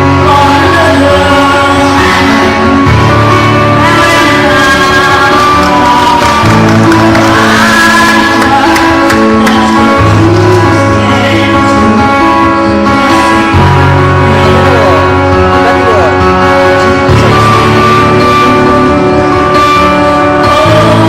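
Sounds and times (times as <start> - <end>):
instrumental accompaniment: 0.0 - 21.0
person singing: 0.0 - 21.0.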